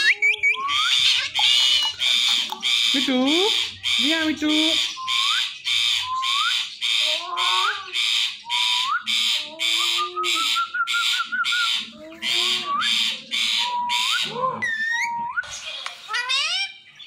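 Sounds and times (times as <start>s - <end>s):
parrot warbling trill: 0.0s - 15.3s, 16.0s - 16.8s
parrot screeching: 0.0s - 16.8s.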